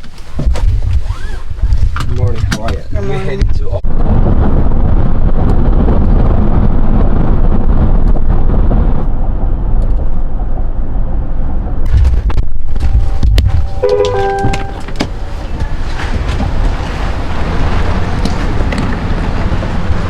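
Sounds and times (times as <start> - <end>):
car rumbling in motion: 0.0 - 20.0.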